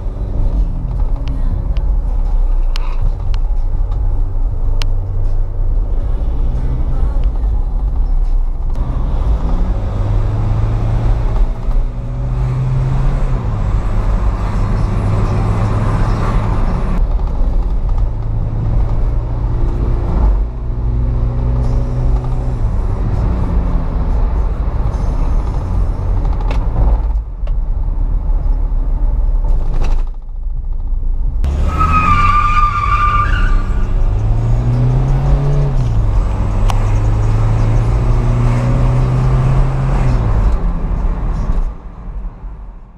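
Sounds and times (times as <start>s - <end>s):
car engine hum: 0.0s - 42.9s
road rumble: 0.0s - 42.9s.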